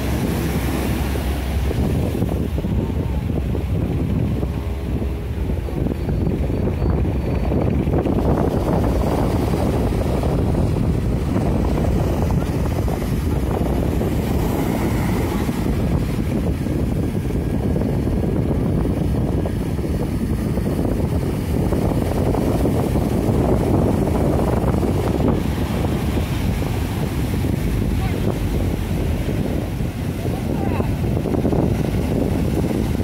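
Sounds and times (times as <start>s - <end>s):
breaking surf: 0.0s - 33.0s
wind buffeting microphone: 0.0s - 33.0s.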